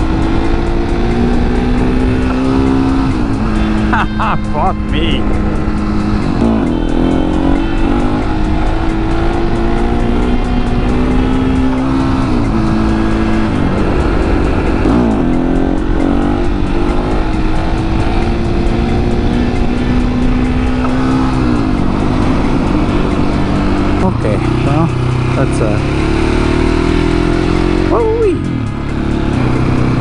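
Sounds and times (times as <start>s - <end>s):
motorcycle engine shifting gears: 0.0s - 30.0s.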